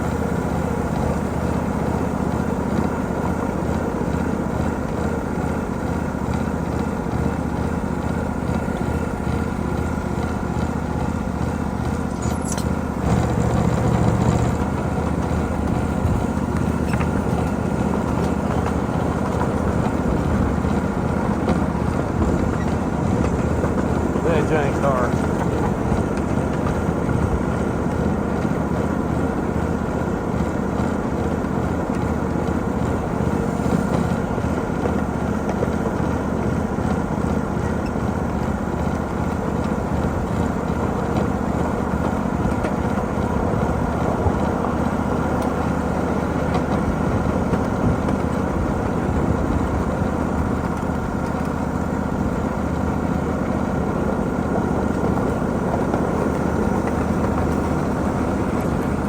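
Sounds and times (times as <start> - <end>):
miniature train engine drone: 0.0 - 59.0
wheels rumbling on rails: 0.0 - 59.0.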